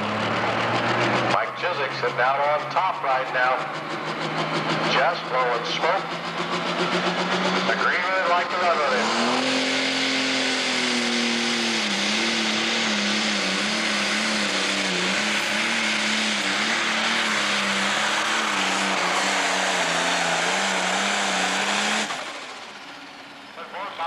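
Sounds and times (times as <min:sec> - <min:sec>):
pulling tractor engine at full power: 0:00.0 - 0:24.0.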